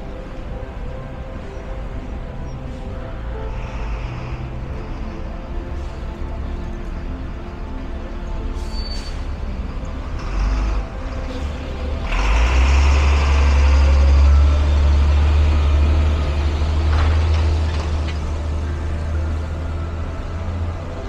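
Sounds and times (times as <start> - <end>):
heavy vehicle passing on wet street: 0.0 - 21.0.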